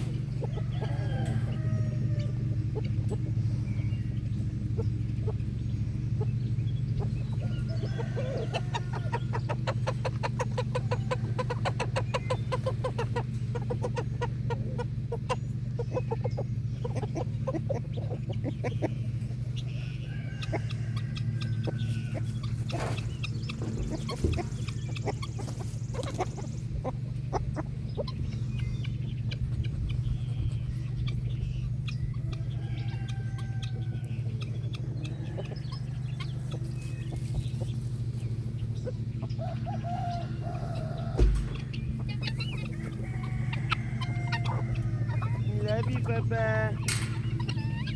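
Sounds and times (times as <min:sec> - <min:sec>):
chicken high calls: 0:00.0 - 0:47.9
chickens clucking: 0:00.0 - 0:47.9
steady low hum: 0:00.0 - 0:47.9.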